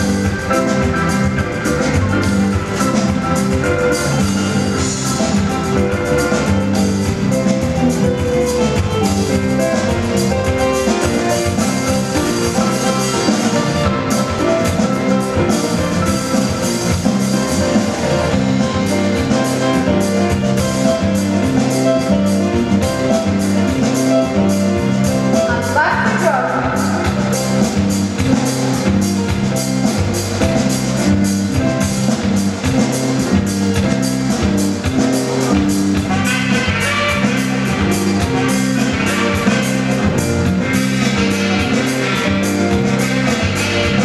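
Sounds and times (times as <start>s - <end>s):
band music: 0.0s - 44.0s
drums steady beat: 0.0s - 44.0s.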